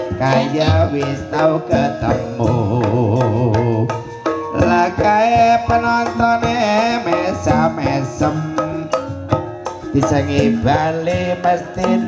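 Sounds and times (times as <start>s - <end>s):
gamelan melody: 0.0s - 12.0s.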